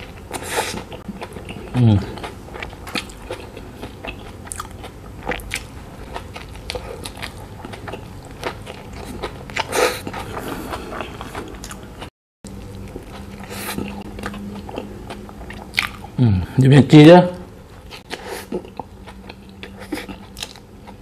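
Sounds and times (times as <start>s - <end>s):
biting and chewing food: 0.0s - 16.2s, 17.8s - 21.0s.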